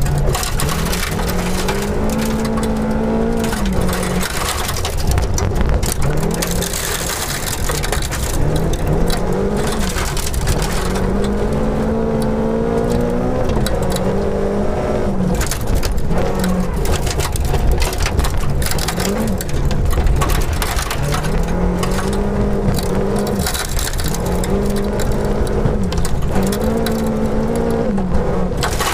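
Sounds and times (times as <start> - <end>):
stones rattling against car underside: 0.0 - 14.4, 15.1 - 28.9
rally car engine revving: 0.0 - 28.9.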